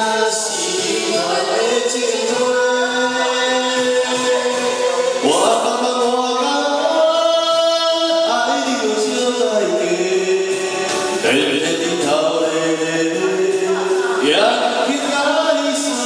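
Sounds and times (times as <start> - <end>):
backing track music: 0.0 - 16.0
man singing: 0.0 - 16.0
woman singing: 0.4 - 9.9, 10.5 - 16.0.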